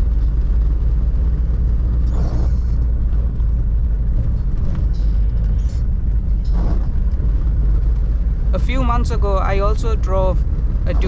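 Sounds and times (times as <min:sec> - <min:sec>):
diesel engine rumble: 0:00.0 - 0:11.0
road noise while driving: 0:00.0 - 0:11.0.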